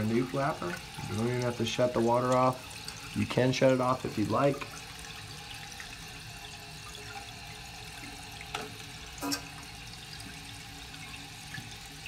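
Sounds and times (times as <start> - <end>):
water hissing into toilet tank: 0.0 - 12.0.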